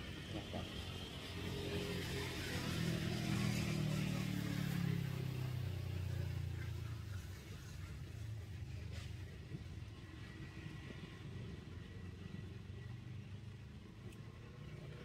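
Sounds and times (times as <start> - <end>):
motor vehicle engine hum: 0.0 - 15.0.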